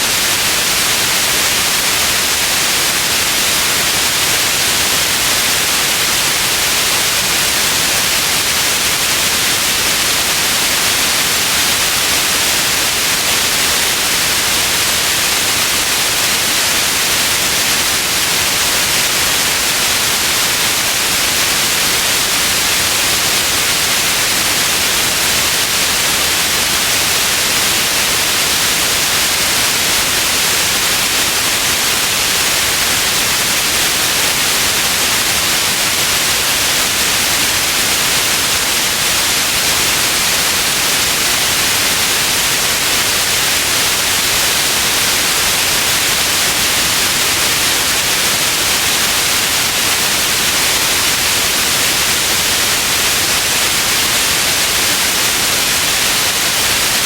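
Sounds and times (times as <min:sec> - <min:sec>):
electronic white noise hiss: 0:00.0 - 0:57.0.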